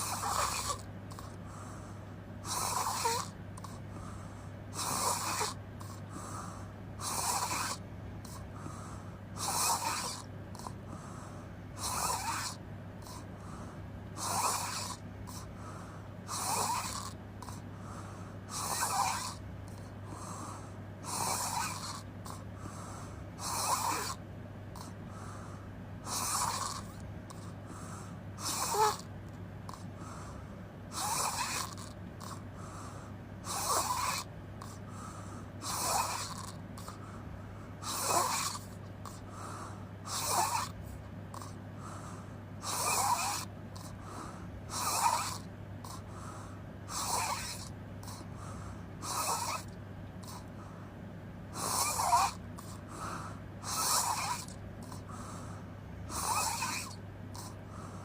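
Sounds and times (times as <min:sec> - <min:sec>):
person snoring: 0:00.0 - 0:29.1, 0:29.7 - 0:37.0, 0:37.8 - 0:50.5, 0:51.5 - 0:58.0.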